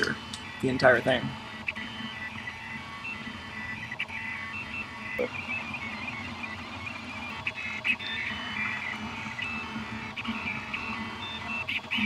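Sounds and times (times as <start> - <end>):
steady low hum: 0.0 - 12.0
stepper motors whining: 0.0 - 12.0.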